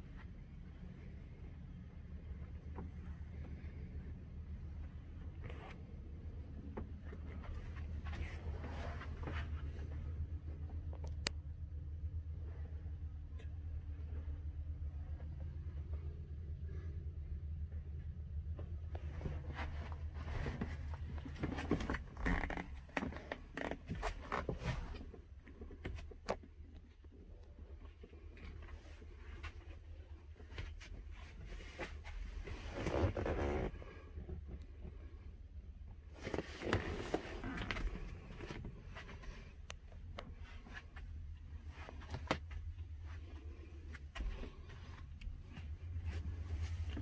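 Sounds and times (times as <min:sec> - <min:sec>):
low steady rumble: 0:00.0 - 0:47.0
steady low hum: 0:00.0 - 0:47.0.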